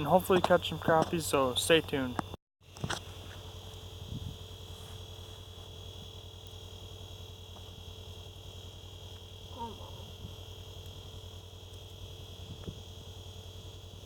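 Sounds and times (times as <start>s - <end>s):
high-pitched whine: 0.0s - 14.0s
rapidly pulsing low hum: 0.0s - 14.0s.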